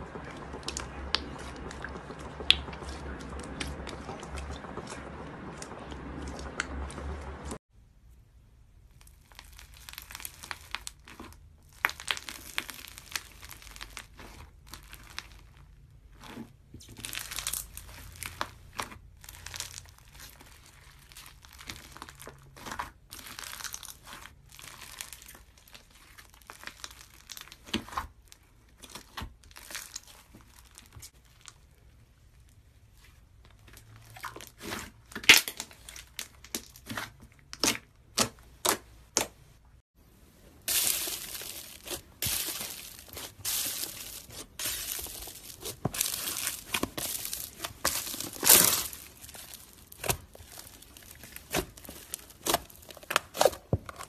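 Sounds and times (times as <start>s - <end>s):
hands squishing crunchy slime: 0.0s - 7.6s, 8.9s - 39.5s, 40.1s - 54.0s.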